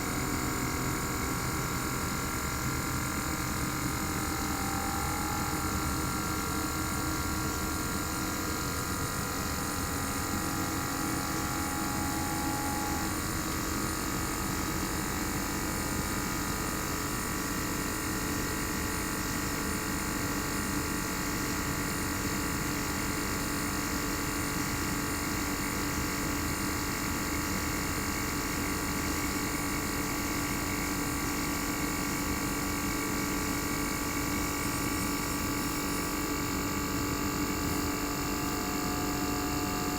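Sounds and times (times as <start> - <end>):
air conditioner compressor hum: 0.0 - 39.9.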